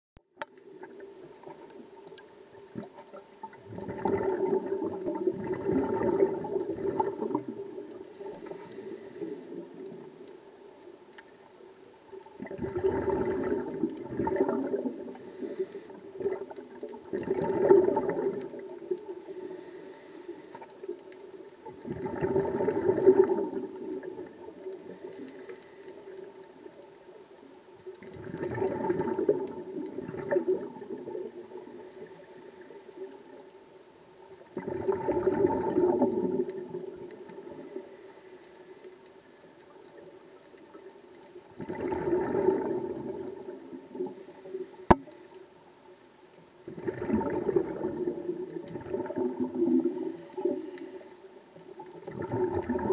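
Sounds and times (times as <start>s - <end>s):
exhaled bubbles gurgling underwater: 0.3s - 52.9s.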